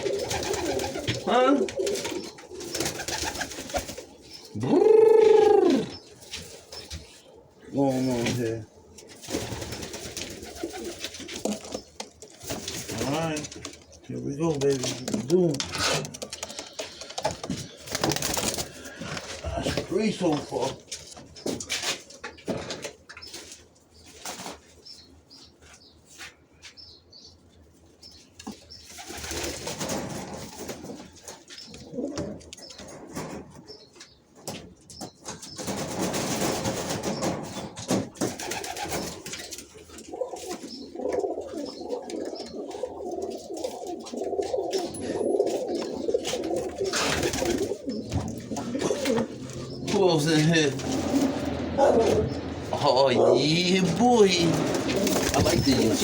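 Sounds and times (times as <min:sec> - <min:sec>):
pigeons cooing: 0:00.0 - 0:20.8, 0:28.9 - 0:33.9, 0:35.7 - 0:56.0.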